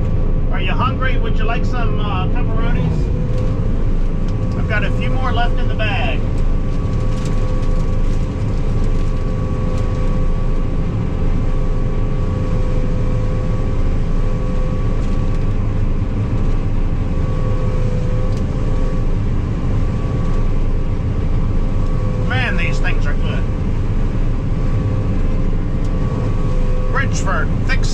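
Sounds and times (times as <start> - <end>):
combine harvester droning: 0.0 - 27.9
steady machine whine: 0.0 - 27.9.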